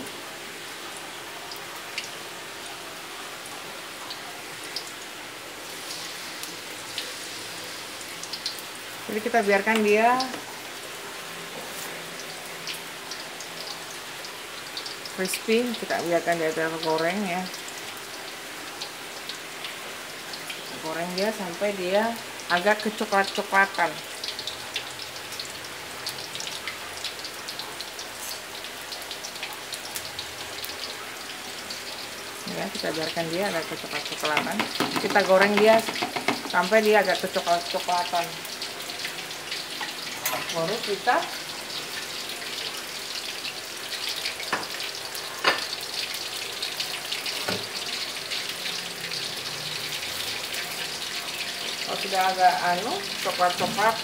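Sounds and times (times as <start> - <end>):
fish deep-frying in hot oil: 0.0 - 54.0.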